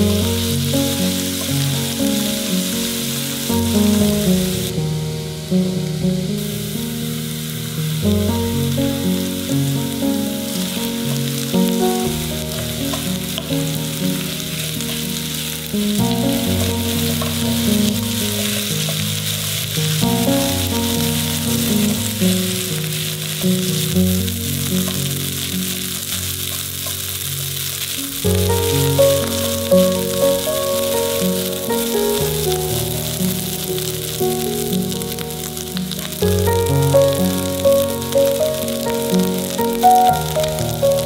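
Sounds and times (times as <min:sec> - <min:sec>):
background music: 0:00.0 - 0:27.2, 0:27.8 - 0:41.0
batter frying in oil: 0:00.0 - 0:41.0.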